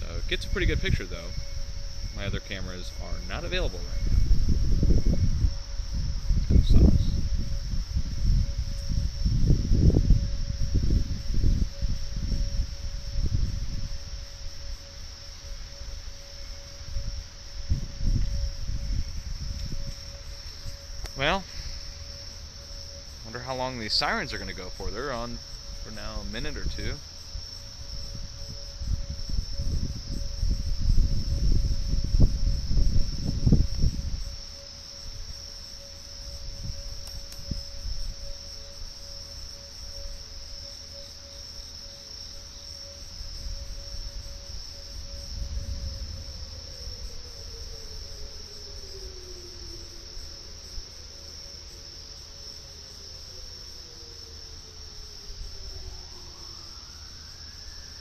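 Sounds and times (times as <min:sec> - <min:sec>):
crickets chirring: 0:00.0 - 0:58.0
wailing warning siren: 0:00.0 - 0:58.0.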